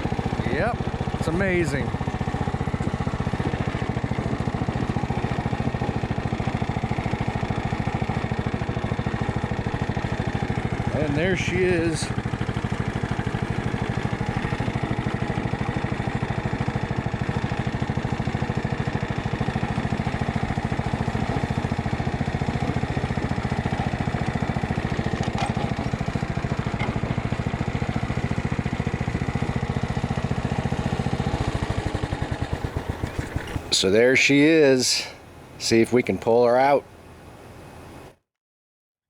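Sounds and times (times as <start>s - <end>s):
riding lawn mower engine: 0.0s - 38.2s.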